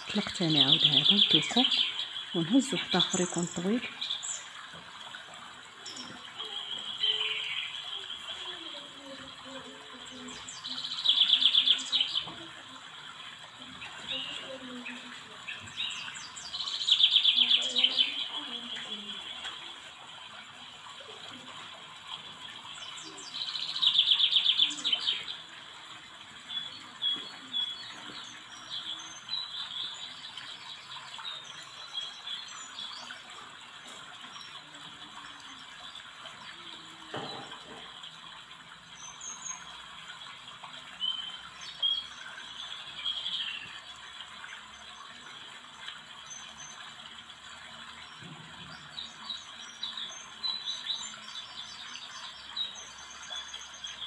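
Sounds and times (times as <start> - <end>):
small birds chirping: 0.0 - 19.8, 20.8 - 37.9, 38.8 - 54.0.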